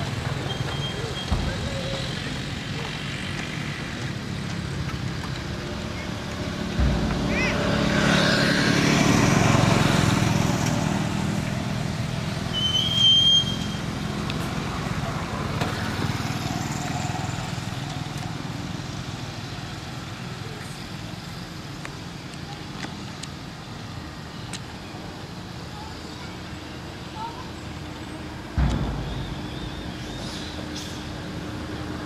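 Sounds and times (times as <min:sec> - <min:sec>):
vehicle engine: 0:00.0 - 0:24.2, 0:27.5 - 0:32.0.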